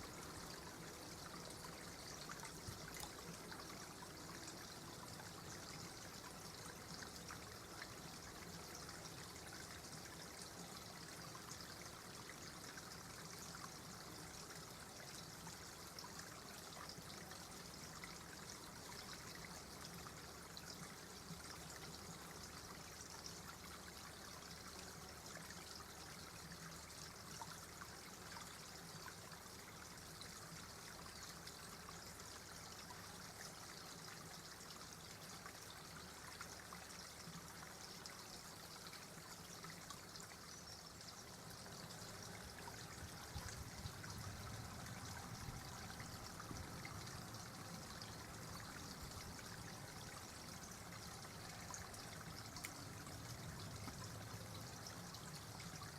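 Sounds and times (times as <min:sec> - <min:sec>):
stream trickling: 0:00.0 - 0:55.9.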